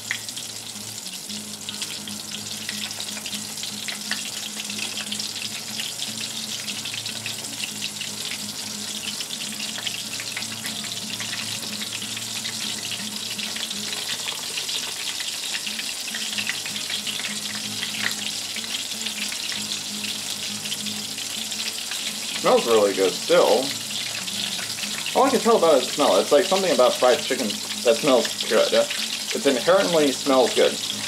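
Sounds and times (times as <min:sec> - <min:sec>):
chicken deep-frying in oil: 0:00.0 - 0:31.0.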